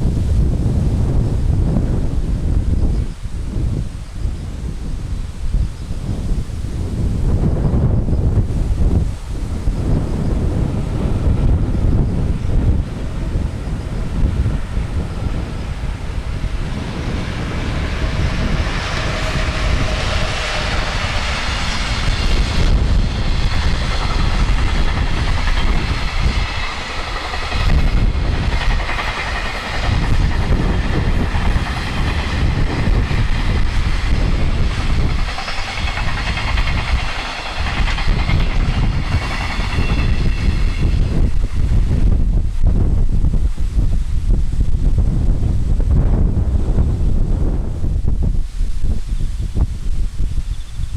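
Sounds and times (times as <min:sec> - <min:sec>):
freight train passing: 0:00.0 - 0:50.9.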